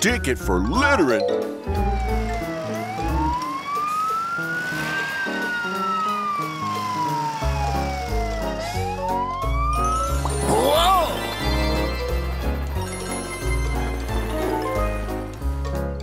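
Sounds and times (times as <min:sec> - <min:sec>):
police siren wailing: 0:01.6 - 0:14.6.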